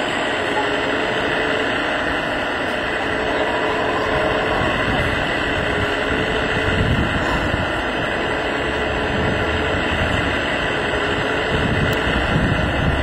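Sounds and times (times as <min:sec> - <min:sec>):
hydraulic pump whirring: 0:00.0 - 0:13.0.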